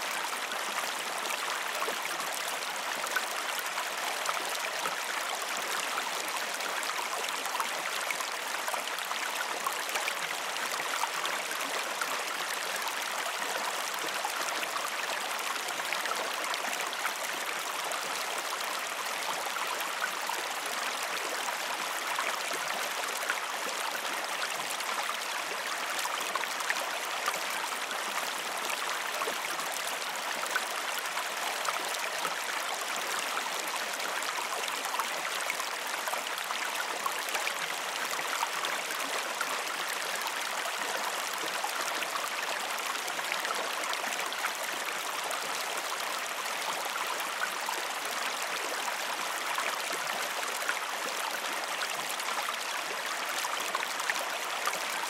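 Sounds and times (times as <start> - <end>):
creek water flowing over stones: 0.0 - 55.0.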